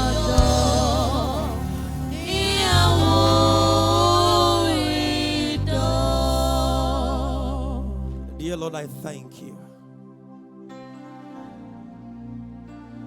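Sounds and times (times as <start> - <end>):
gospel worship music: 0.0 - 13.0.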